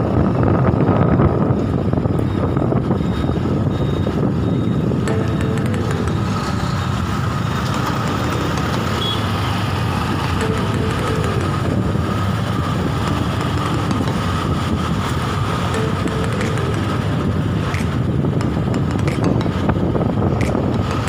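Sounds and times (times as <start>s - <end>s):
engine and road noise: 0.0s - 21.0s.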